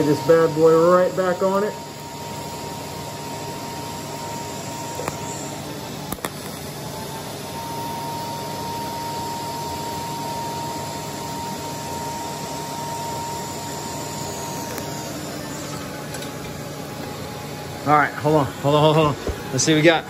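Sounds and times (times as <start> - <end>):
water cooler humming: 0.0 - 20.0
welding arc hiss and whine: 0.0 - 20.0.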